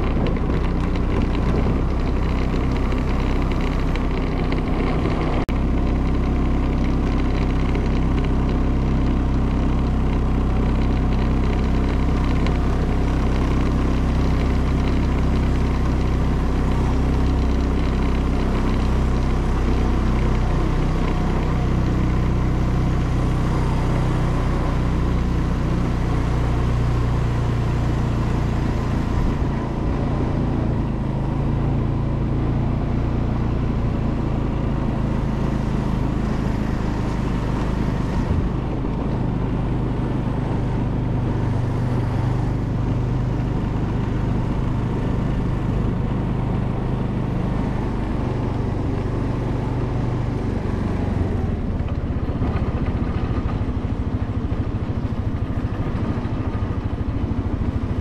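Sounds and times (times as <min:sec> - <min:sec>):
road noise: 0:00.0 - 0:58.0
vehicle engine humming: 0:00.0 - 0:58.0.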